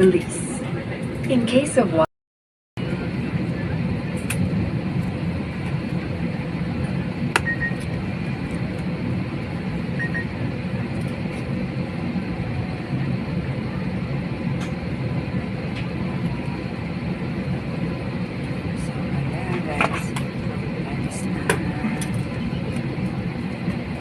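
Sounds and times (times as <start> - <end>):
airliner cabin engine rumble: 0.0 - 2.1, 2.8 - 24.0.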